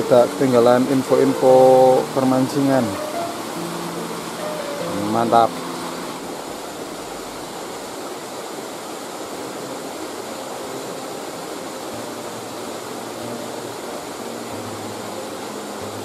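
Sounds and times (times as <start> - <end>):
river water over rocks: 0.0 - 16.0.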